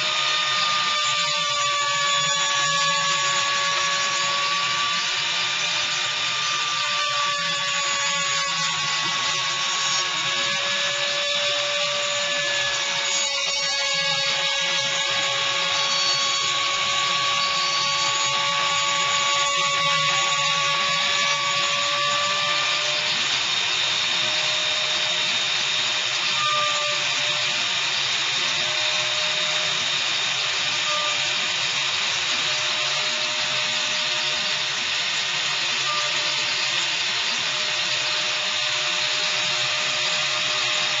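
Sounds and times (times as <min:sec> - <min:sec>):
cutter milling wood: 0:00.0 - 0:41.0
router spindle whine: 0:00.0 - 0:41.0.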